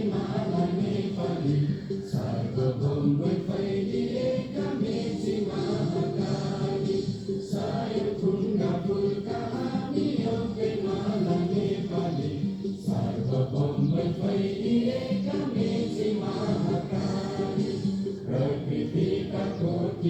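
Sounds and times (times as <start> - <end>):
students singing in unison: 0.0 - 20.0.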